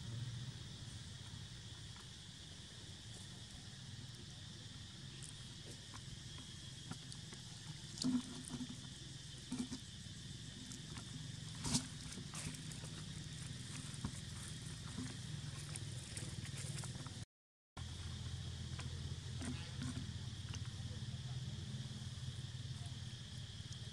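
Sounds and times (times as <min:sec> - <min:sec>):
insect drone: 0:00.0 - 0:17.2, 0:17.8 - 0:23.9.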